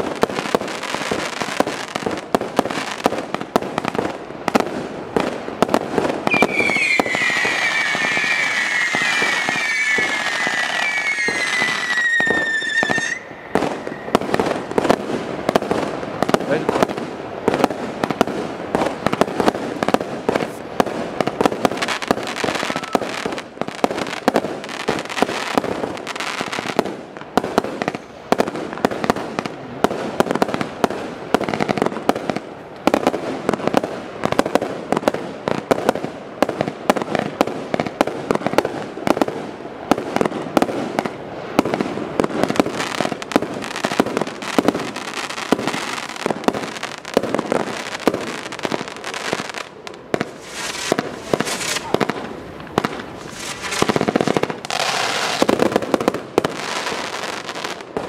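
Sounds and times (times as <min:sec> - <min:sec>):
firework barrage bangs: 0:00.0 - 0:58.0.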